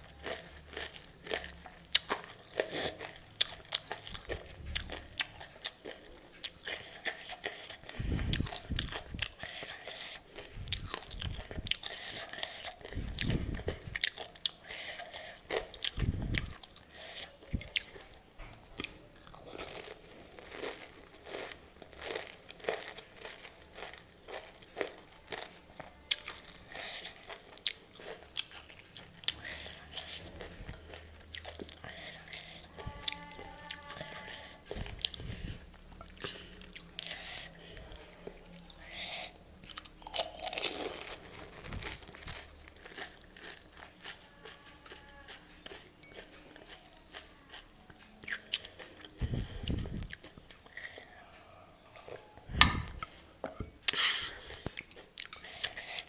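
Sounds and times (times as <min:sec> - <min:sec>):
crunching and chewing crisp shells: 0:00.0 - 0:56.0.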